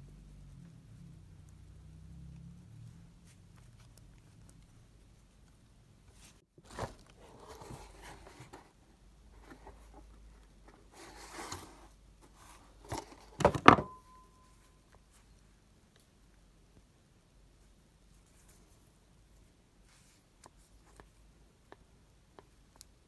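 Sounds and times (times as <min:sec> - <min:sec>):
rustling handling noises: 0:03.2 - 0:16.2, 0:17.5 - 0:23.0.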